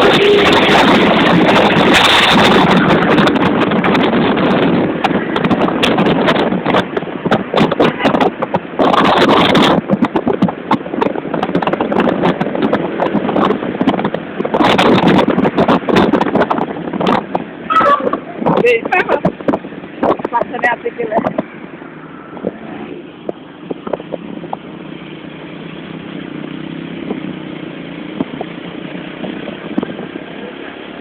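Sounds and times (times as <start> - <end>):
road noise from moving vehicles: 0.0 - 31.0.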